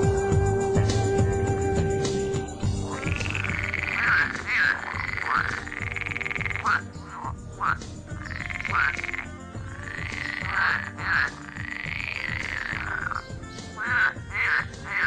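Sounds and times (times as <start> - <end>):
frogs croaking: 2.6 - 15.0.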